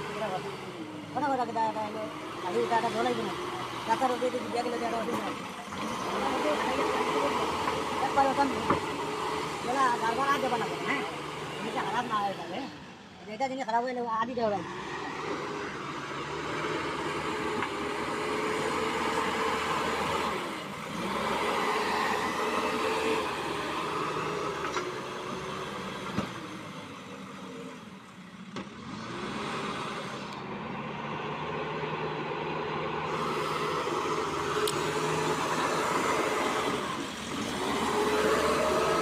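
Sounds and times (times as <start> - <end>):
diesel engine under load: 0.0 - 39.0.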